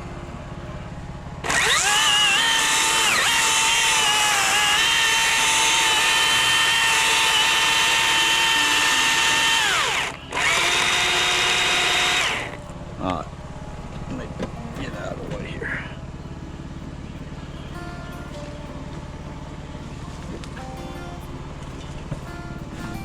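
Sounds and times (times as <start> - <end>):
chainsaw motor whine: 0.0 - 23.0.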